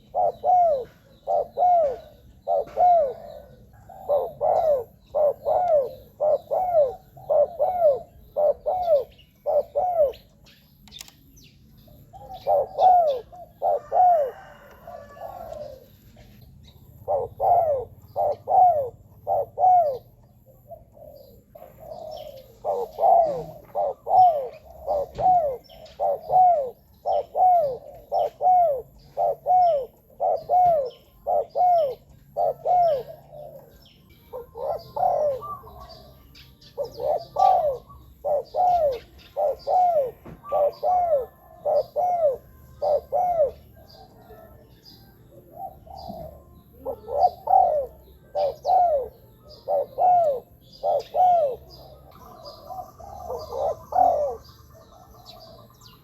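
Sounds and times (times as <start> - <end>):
dove cooing: 0.0 - 11.1, 11.8 - 56.0.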